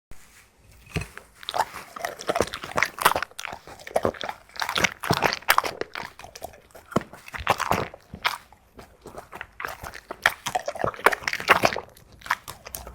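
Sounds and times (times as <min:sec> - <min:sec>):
dog chewing and crunching food: 0:00.2 - 0:12.9.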